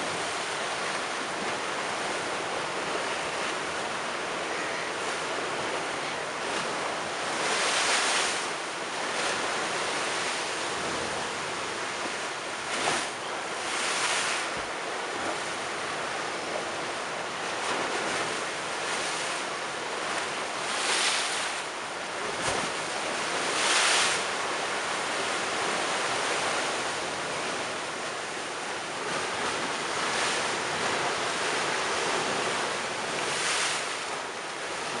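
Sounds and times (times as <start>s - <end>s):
waves crashing against sea wall: 0.0s - 35.0s.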